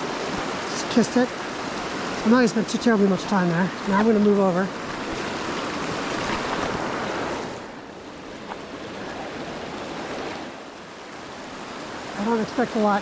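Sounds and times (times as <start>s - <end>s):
rushing mountain stream: 0.0s - 13.0s.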